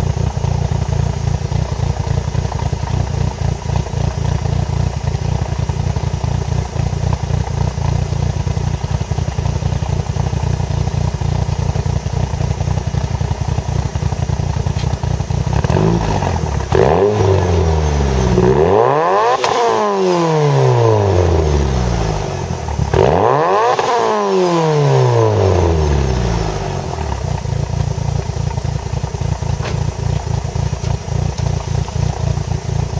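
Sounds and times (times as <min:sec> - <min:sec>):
car exhaust idling and revving: 0:00.0 - 0:32.9.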